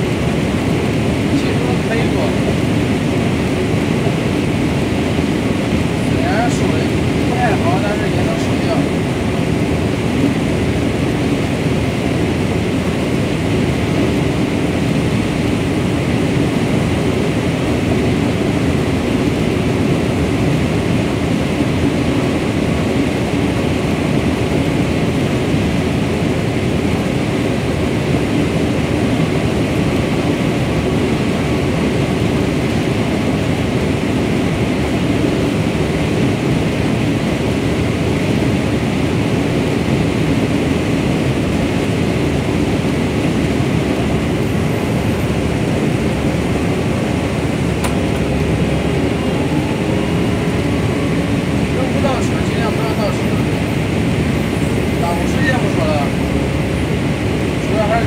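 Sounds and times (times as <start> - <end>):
corn harvester drone: 0.0 - 58.0.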